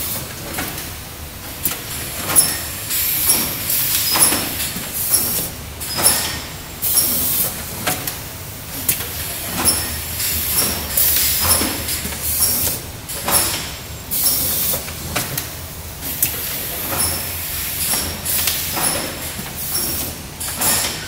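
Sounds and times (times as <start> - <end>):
mechanism clicks and clacks: 0.0 - 21.0.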